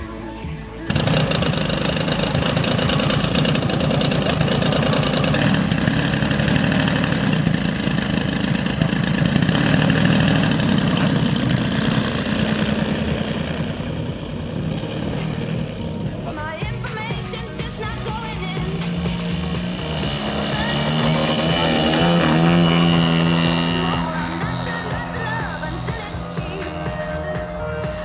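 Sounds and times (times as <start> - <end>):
model plane engine running: 0.9 - 28.0.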